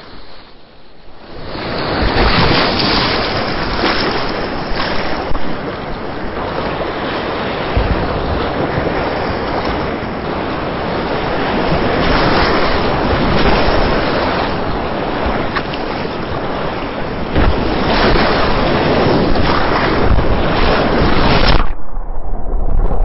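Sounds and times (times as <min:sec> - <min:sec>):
paddle splashing waves: 0:01.4 - 0:21.7.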